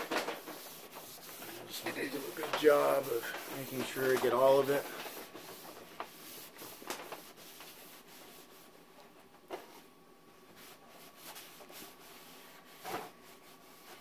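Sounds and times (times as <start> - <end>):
paper towel rubbing on panel: 0.0 - 8.7, 10.5 - 14.0.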